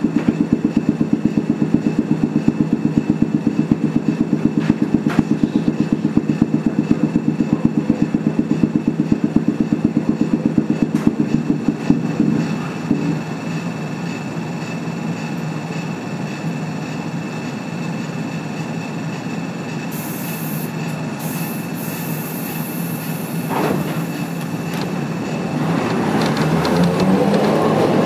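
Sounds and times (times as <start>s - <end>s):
tram motors and wheels humming: 0.0s - 28.0s.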